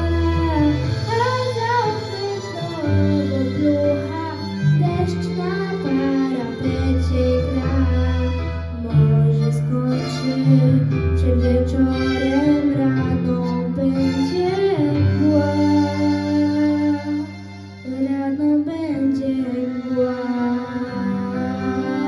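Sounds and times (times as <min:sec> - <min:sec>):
instrumental music with bass and chords: 0:00.0 - 0:22.0.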